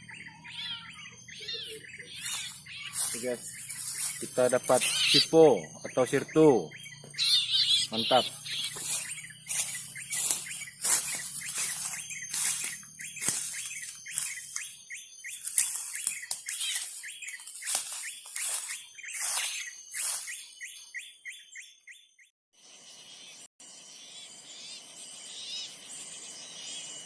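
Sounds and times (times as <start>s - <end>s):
bird chirping: 0.0s - 22.2s.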